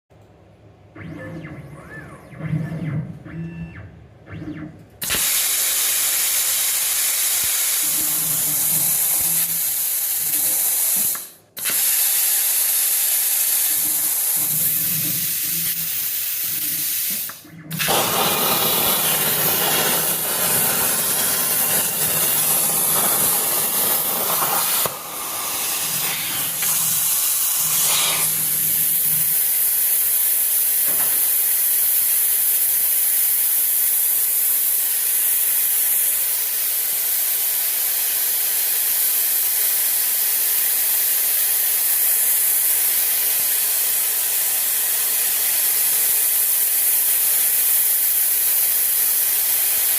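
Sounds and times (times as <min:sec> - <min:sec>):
plasma torch arc hissing: 0:05.0 - 0:49.9.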